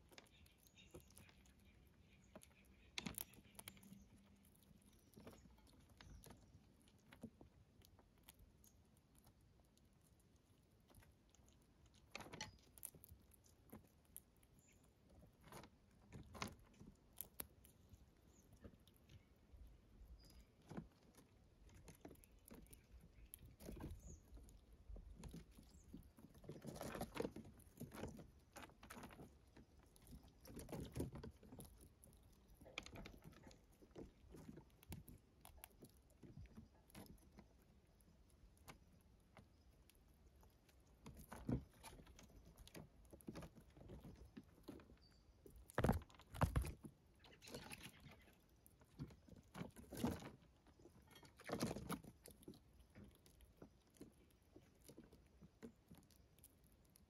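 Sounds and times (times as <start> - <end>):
animals crunching corn kernels: 0.0 - 57.0.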